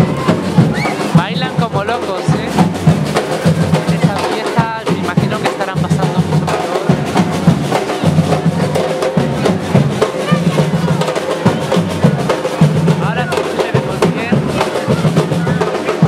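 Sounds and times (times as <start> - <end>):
bass drum beats: 0.0 - 16.0
snare drum strokes: 0.0 - 16.0.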